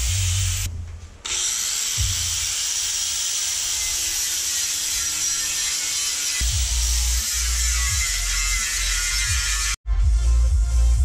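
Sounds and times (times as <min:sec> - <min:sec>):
angle grinder grinding metal: 0:00.0 - 0:09.8.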